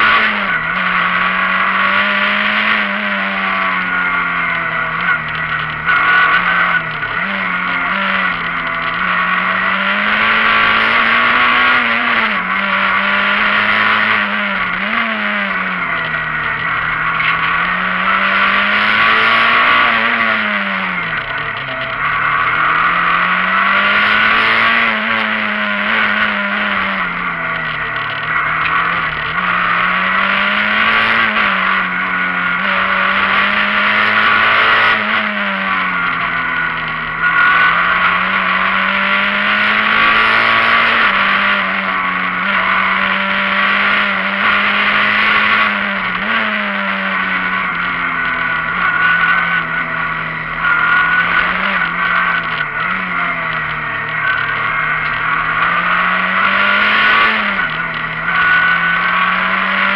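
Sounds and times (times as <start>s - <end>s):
car engine revving: 0.0s - 59.9s
tyre and road noise: 0.0s - 59.9s.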